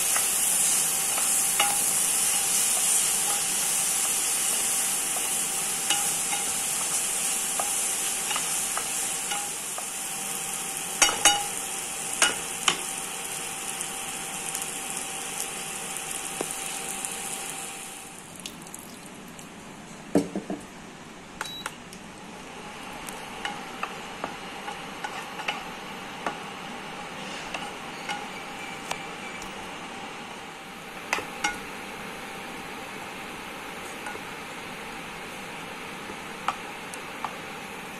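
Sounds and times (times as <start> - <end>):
vegetables sizzling in oil: 0.0 - 19.1, 22.4 - 29.5, 30.3 - 37.9.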